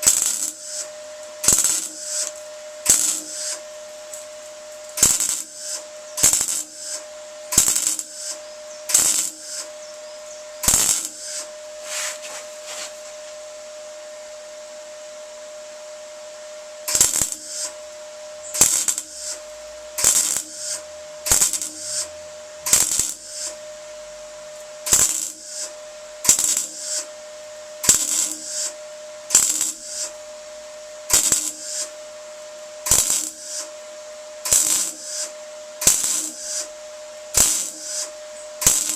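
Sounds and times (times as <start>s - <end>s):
welder crackling bursts: 0.0s - 13.0s, 16.8s - 38.9s
steady hum: 0.0s - 38.9s.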